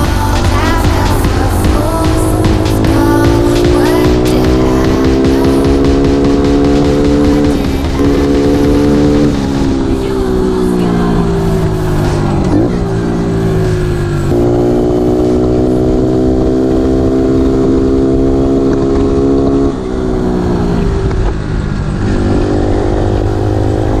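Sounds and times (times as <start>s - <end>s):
pit bike engine running: 0.0s - 24.0s.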